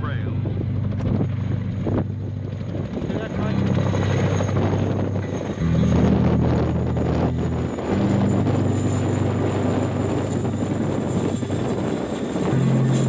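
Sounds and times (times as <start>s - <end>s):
helicopter engine and rotor: 0.0s - 13.0s
low sustained tones: 0.0s - 13.0s.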